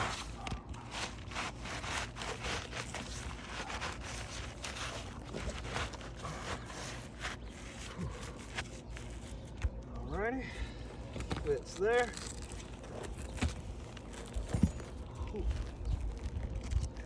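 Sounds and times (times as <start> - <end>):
roof shingle scraping and rustling: 0.0 - 17.0.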